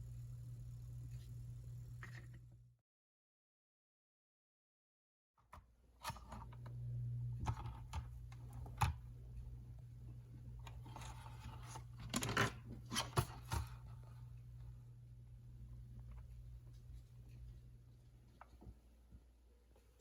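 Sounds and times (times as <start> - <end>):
steady low hum: 0.0 - 2.8, 5.9 - 20.0.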